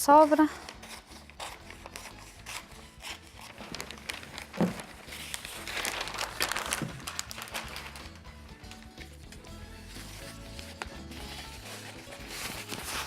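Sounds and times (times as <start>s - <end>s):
paper rustling and crumpling: 0.5s - 13.0s.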